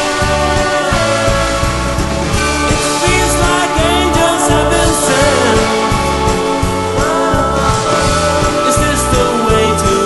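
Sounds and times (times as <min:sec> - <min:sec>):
instrumental soft-rock music: 0:00.0 - 0:10.0.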